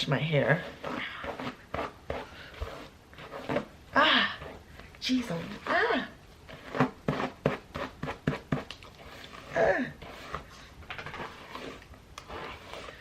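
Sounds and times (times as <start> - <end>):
hairbrush brushing hair: 0.0 - 13.0.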